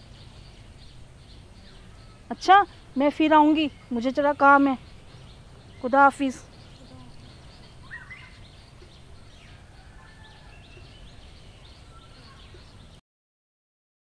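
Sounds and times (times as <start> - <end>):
low steady rumble: 0.0 - 12.9
faint bird chirps: 0.0 - 13.0.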